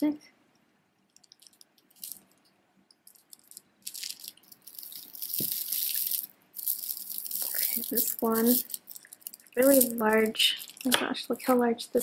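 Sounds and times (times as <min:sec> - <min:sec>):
beaded jewelry clicking and clattering: 0:01.1 - 0:11.0.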